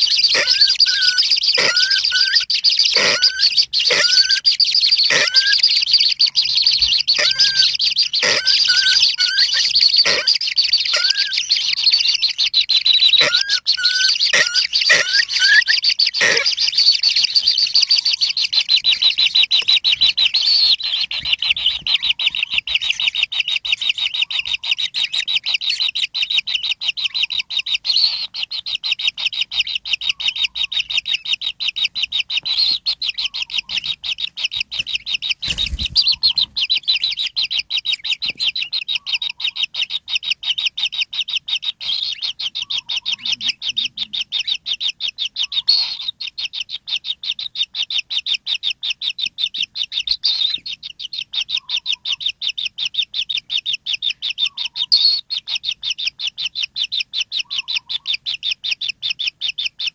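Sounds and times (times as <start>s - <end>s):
nestlings begging chirps: 0.0s - 59.9s.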